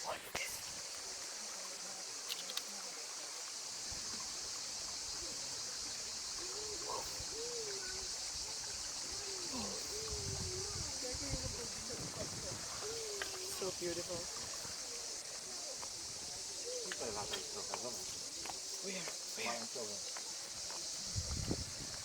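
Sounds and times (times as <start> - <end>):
cicadas chorus: 0.0 - 22.0
faint distant voices: 0.0 - 22.0.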